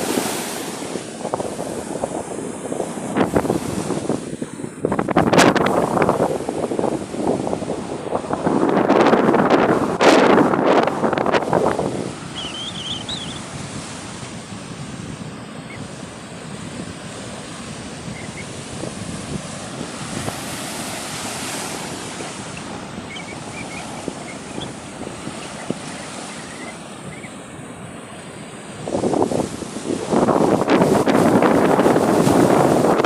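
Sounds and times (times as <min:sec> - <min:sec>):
steady wash of surf: 0:00.0 - 0:33.0
wave breaking: 0:00.0 - 0:33.0
wind buffeting microphone: 0:00.0 - 0:33.0.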